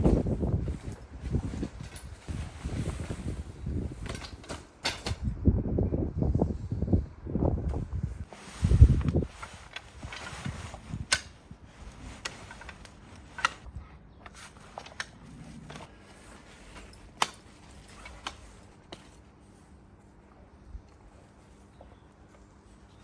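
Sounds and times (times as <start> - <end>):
soft rustling: 0.0 - 4.0, 7.7 - 23.0.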